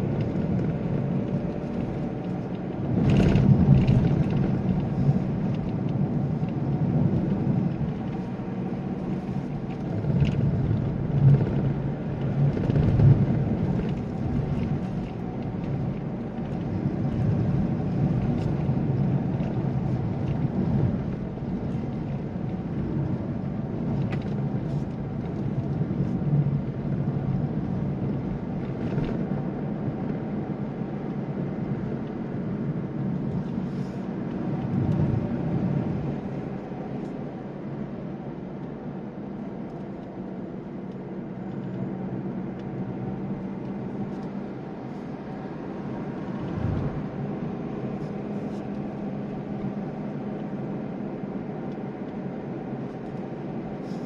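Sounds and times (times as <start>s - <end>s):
tyre and road noise: 0.0s - 54.0s.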